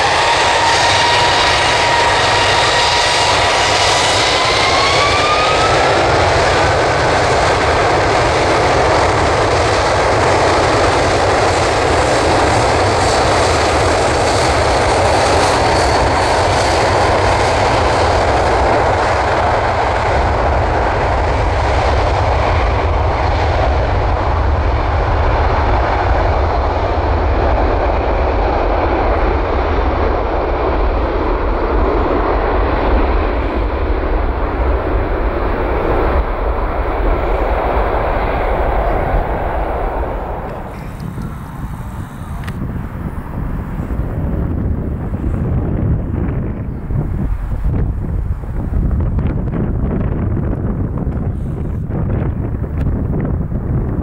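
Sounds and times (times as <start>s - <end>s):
deep jet rumble: 0.0s - 54.0s
jet engines spooling up: 0.0s - 54.0s
jet roar: 0.0s - 54.0s.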